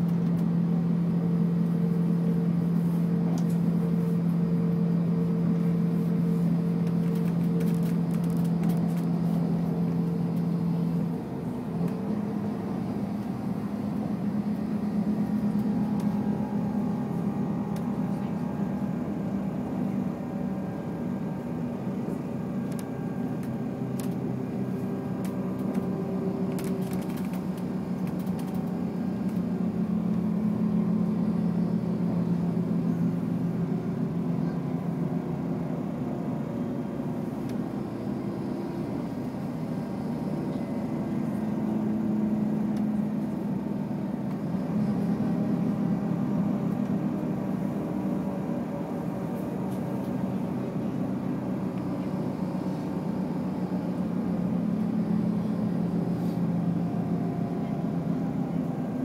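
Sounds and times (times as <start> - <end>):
train engine drone: 0.0 - 59.0
wheel-on-rail rumble: 0.0 - 59.0.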